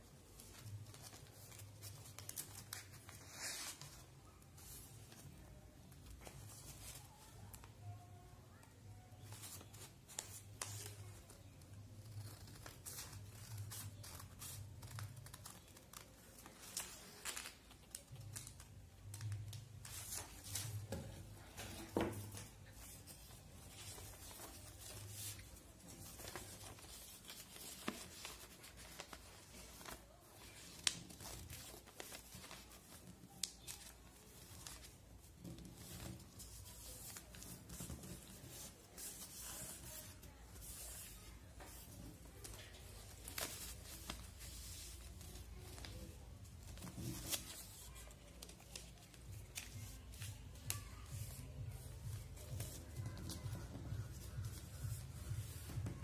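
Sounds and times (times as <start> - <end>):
paper rustling and crinkling: 0.2 - 8.0, 9.0 - 56.0.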